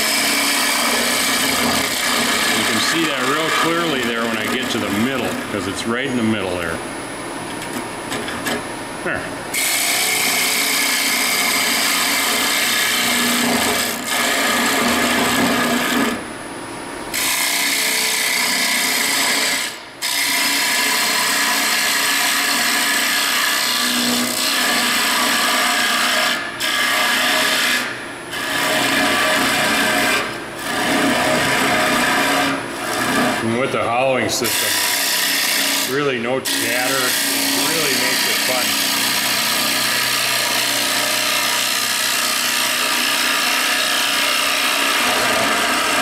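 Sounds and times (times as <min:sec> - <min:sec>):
lathe tool scraping wood: 0:00.0 - 0:06.7, 0:09.5 - 0:16.2, 0:17.1 - 0:46.0.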